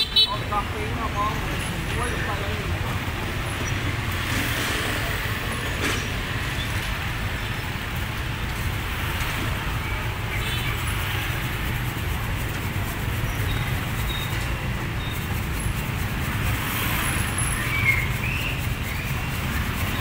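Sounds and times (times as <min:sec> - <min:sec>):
market background noise: 0:00.0 - 0:20.0
traffic rumble: 0:00.0 - 0:20.0.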